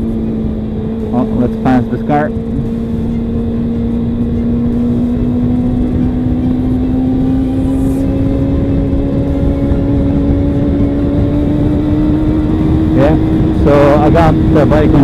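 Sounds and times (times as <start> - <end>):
motorcycle engine accelerating: 0.0 - 15.0
wind over microphone: 0.0 - 15.0.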